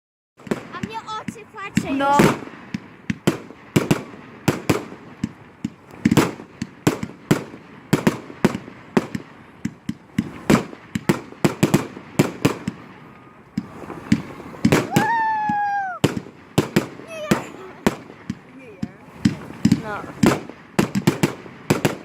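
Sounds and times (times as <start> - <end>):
fireworks bangs and cracks: 0.4 - 22.0.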